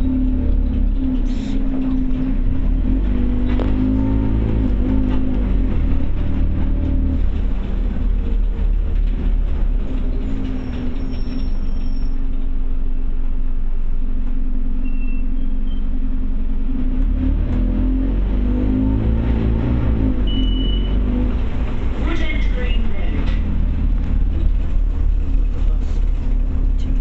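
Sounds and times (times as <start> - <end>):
bus engine rumbling: 0.0 - 27.0.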